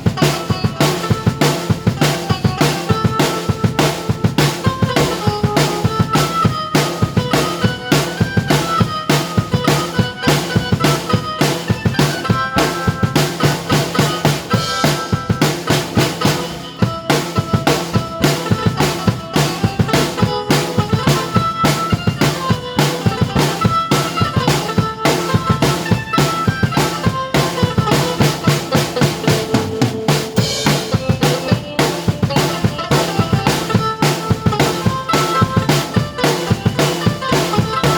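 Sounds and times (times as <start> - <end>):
driving drum beat: 0.0 - 37.9
keyboard melody: 0.0 - 37.9.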